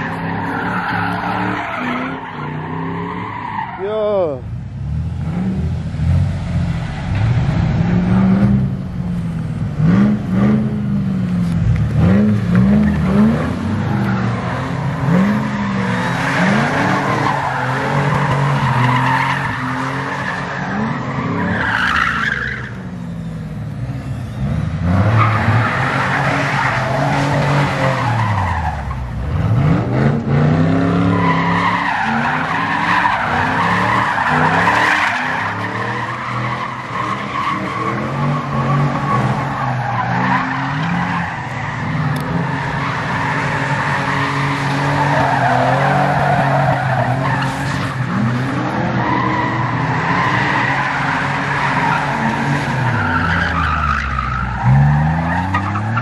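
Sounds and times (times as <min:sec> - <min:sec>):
tires squealing on asphalt: 0:00.0 - 0:56.0
truck engine revving: 0:04.3 - 0:21.7, 0:23.8 - 0:56.0.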